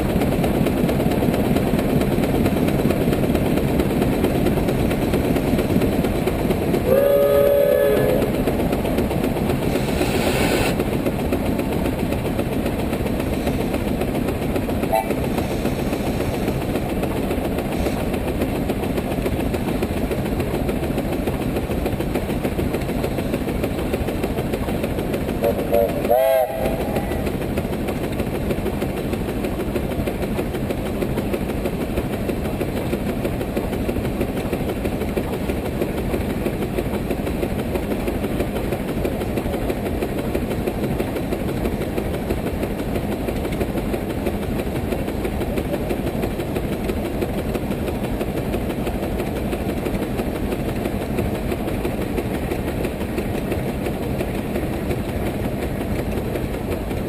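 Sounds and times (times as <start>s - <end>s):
steam engine exhaust beat: 0.0s - 57.0s.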